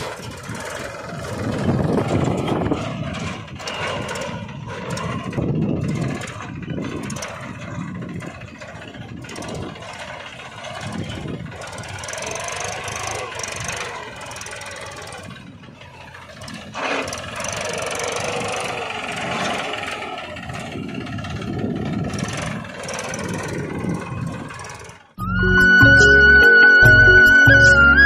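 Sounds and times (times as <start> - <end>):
small tractor engine running: 0.0 - 28.0.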